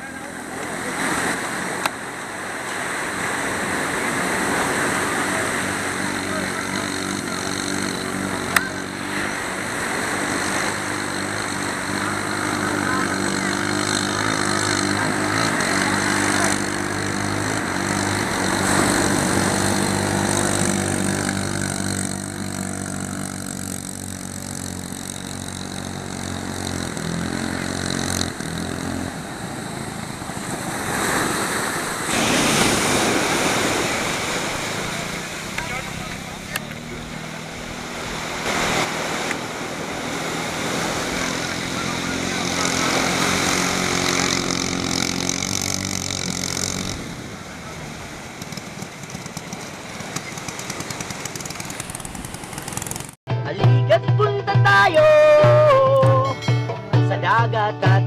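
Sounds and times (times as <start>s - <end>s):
rush of noise: 0.0s - 53.2s
boat engine droning: 0.0s - 58.0s.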